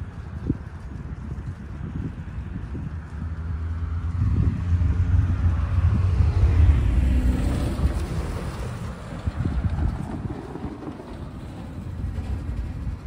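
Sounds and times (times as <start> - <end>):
diesel locomotive engines droning: 0.0 - 13.0.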